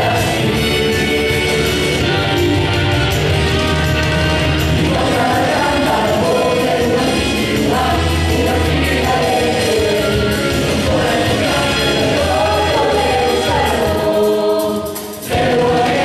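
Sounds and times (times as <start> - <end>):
group singing into microphones: 0.0 - 2.6, 3.4 - 16.0
amplified instrumental music with bass: 0.0 - 16.0.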